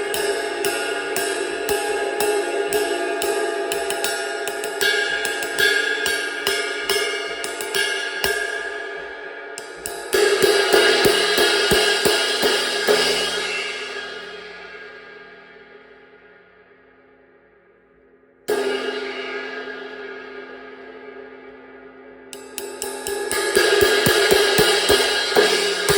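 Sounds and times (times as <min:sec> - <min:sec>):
ride cymbal played with sticks: 0:00.0 - 0:16.1, 0:18.5 - 0:25.9.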